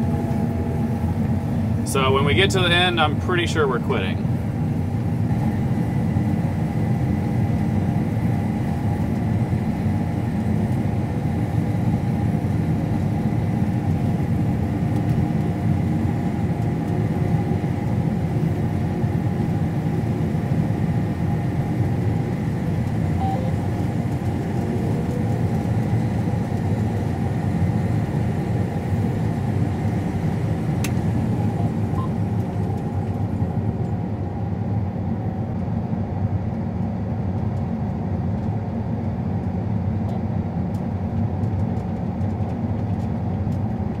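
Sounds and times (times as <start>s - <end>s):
combine harvester drone and whine: 0.0s - 44.0s.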